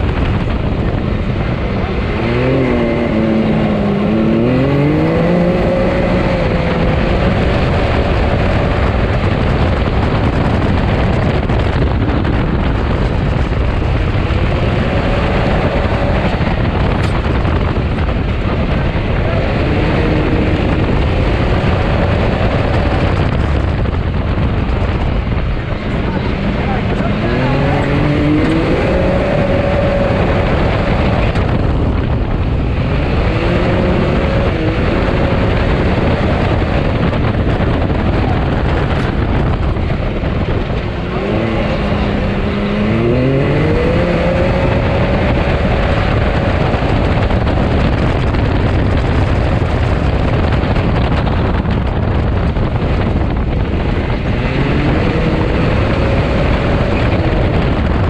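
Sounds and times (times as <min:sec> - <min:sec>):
engine revving under hard driving: 0:00.0 - 0:58.0
loud rushing noise: 0:00.0 - 0:58.0.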